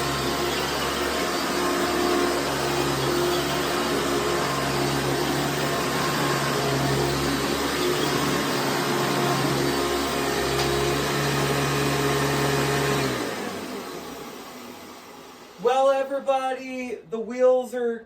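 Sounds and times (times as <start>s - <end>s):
vacuum cleaner running on carpet: 0.0s - 15.6s.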